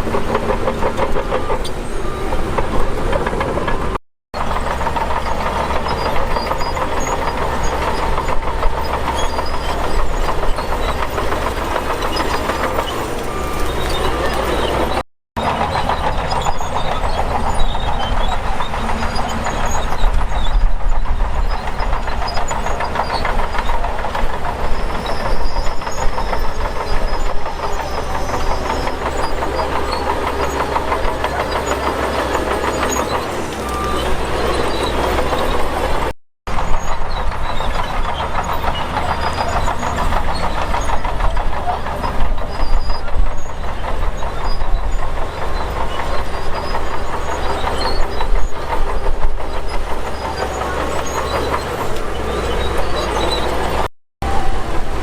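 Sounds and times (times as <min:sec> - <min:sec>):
diesel engine running hard: 0:00.0 - 0:55.0
machinery clanking and rattling: 0:00.0 - 0:55.0.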